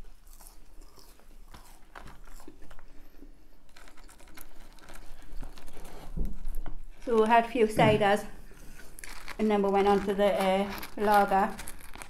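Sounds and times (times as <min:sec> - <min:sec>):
chewing with crunches: 0:00.0 - 0:07.1, 0:08.4 - 0:12.0
crackle of chewing food: 0:00.0 - 0:07.5, 0:08.4 - 0:12.0.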